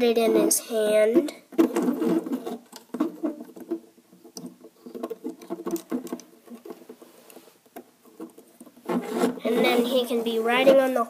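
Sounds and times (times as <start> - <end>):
scratchy rubbing of plastic: 1.2 - 11.0.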